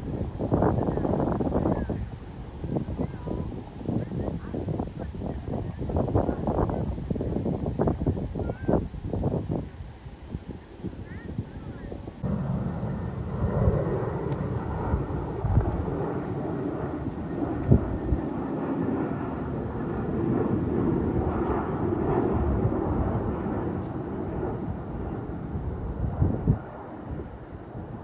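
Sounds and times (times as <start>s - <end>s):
airliner engines rushing drone: 0.0s - 27.9s
wind buffeting microphone: 0.0s - 28.0s.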